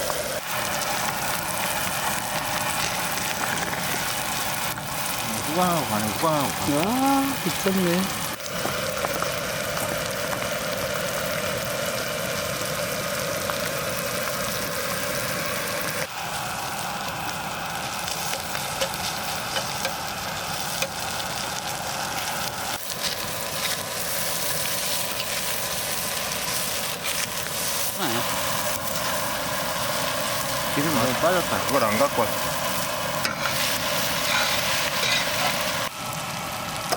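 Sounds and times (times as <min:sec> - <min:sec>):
food sizzling in oil: 0:00.0 - 0:36.9.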